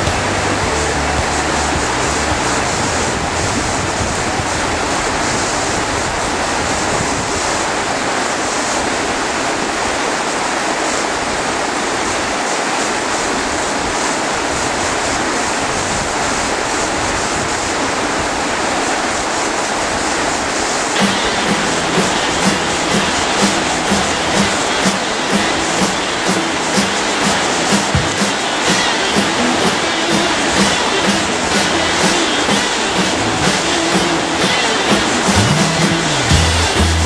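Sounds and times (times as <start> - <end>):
whitewater rapids rushing: 0.0 - 37.0.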